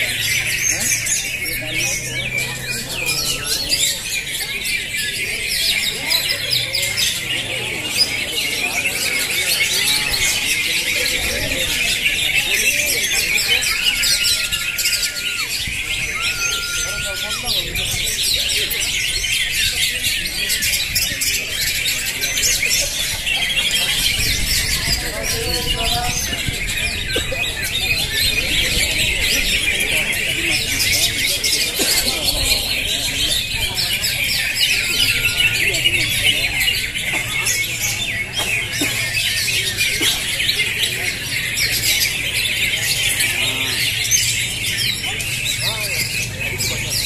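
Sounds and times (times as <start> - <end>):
chorus of birds singing: 0.0 - 47.0.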